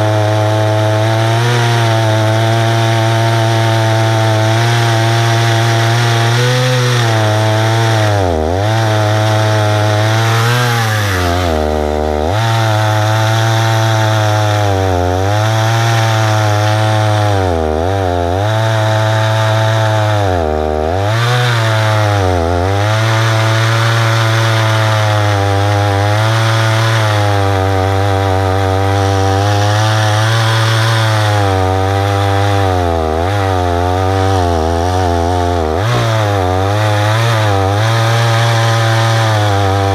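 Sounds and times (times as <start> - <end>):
chainsaw cutting wood at full throttle: 0.0 - 39.9.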